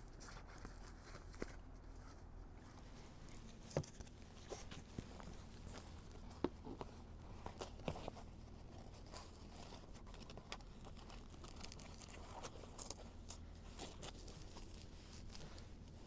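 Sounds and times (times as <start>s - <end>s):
rustles and crinkles: 0.0s - 16.0s.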